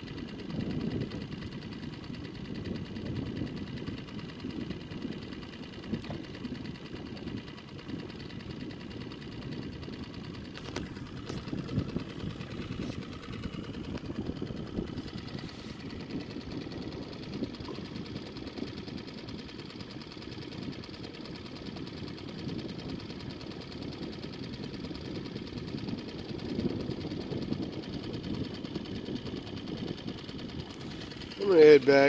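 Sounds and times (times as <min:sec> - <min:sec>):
small boat motor running: 0:00.0 - 0:32.0.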